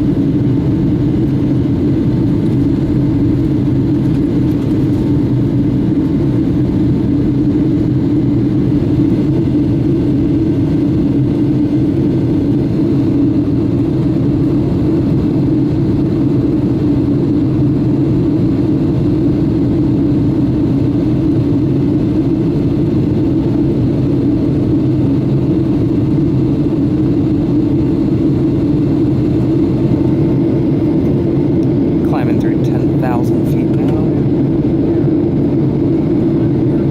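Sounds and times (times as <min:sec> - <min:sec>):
jet engine drone in cabin: 0:00.0 - 0:36.9.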